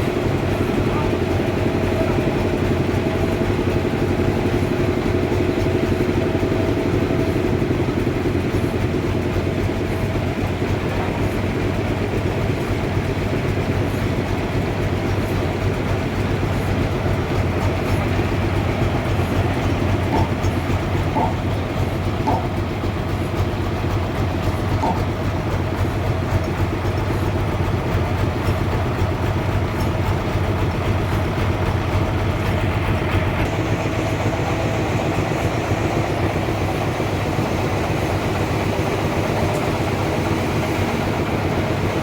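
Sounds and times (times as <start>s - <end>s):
sawmill machinery rumbling: 0.0s - 42.0s.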